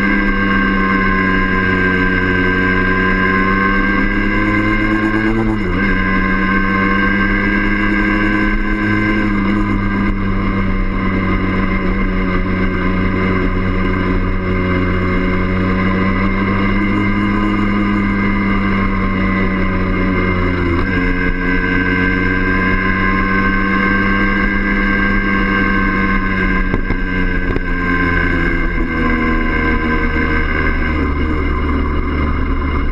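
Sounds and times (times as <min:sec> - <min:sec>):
two-stroke motorcycle engine running: 0:00.0 - 0:32.9.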